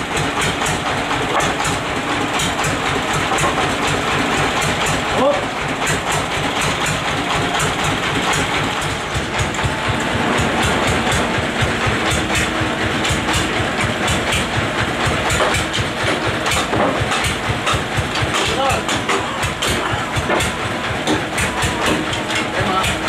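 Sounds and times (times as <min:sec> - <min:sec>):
sawmill engine chugging: 0:00.0 - 0:23.0
sharp clicks and knocks: 0:00.2 - 0:23.0.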